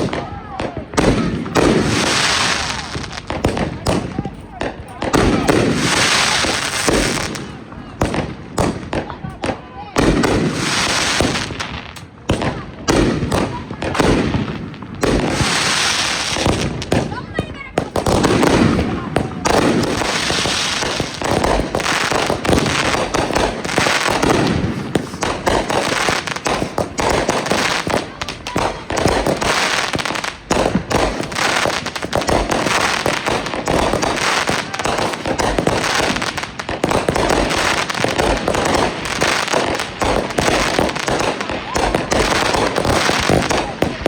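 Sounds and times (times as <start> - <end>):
fireworks popping and crackling: 0.0 - 44.0.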